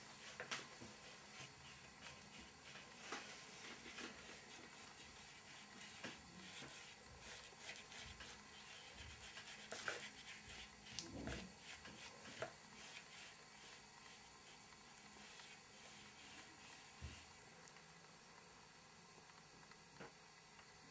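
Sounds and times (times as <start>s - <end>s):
paintbrush rubbing on paper: 0.0s - 17.4s.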